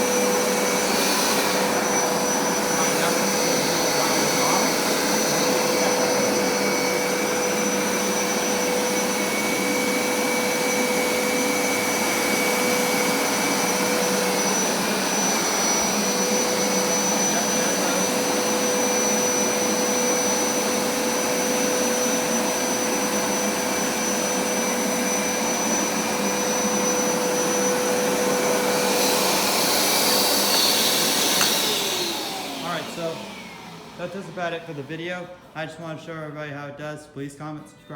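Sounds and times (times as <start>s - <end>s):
carpet cleaner running: 0.0s - 35.9s.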